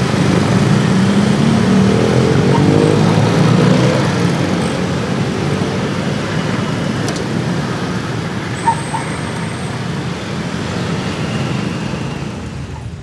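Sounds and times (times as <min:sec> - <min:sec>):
scooters and cars passing: 0:00.0 - 0:13.0.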